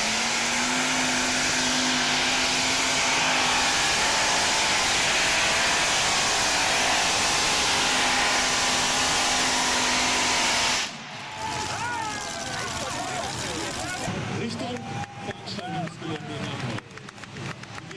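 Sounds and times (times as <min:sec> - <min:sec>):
tractor engines at high revs: 0:00.0 - 0:17.9.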